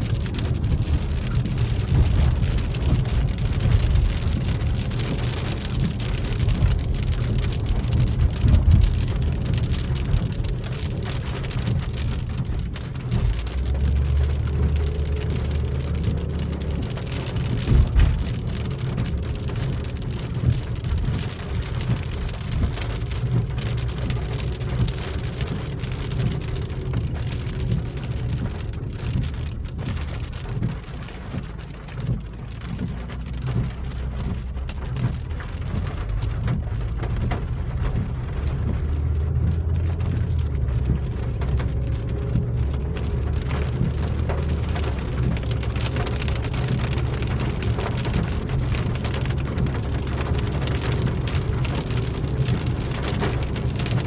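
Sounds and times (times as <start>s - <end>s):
car engine and tyres rumble: 0.0s - 54.0s
rain pattering on car roof: 0.0s - 54.0s.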